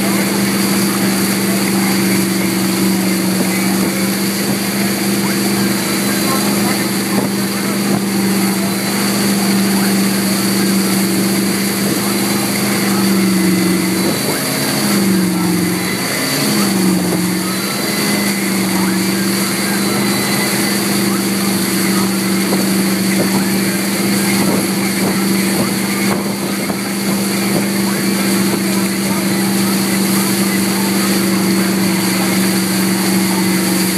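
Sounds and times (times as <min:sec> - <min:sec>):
boat engine droning: 0:00.0 - 0:33.9
churning wake water: 0:00.0 - 0:33.9.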